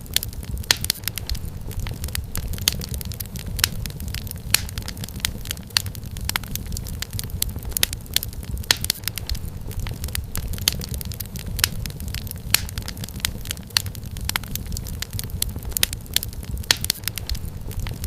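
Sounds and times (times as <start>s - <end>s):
fireplace fire crackling and popping: 0.0s - 18.0s.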